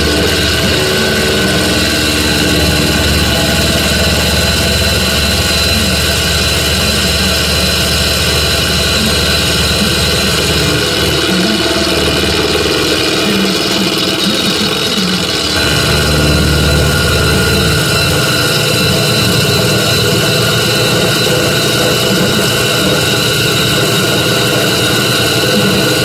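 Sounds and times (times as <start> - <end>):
metal lathe humming: 0.0 - 26.0.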